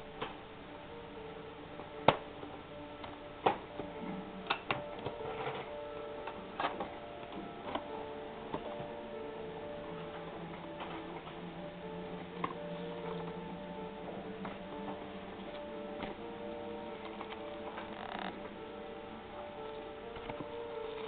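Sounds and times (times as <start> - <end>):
faint background tones: 0.0 - 21.0.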